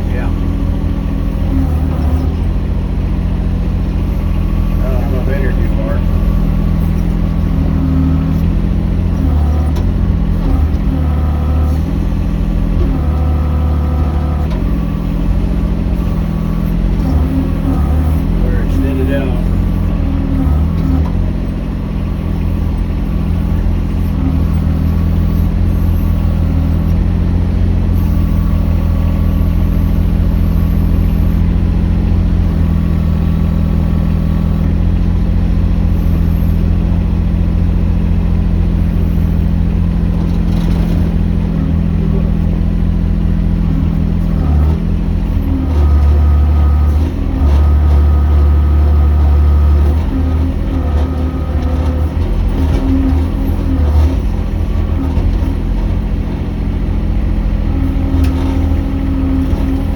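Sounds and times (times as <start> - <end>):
mini excavator engine running: 0.0 - 59.9.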